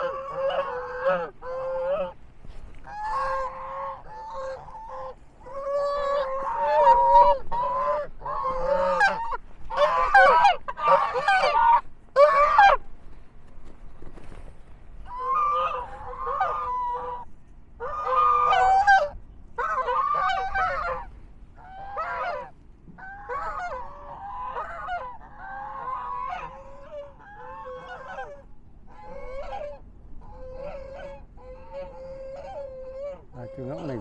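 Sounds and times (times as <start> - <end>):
geese honking: 0.0 - 12.8, 15.0 - 34.0.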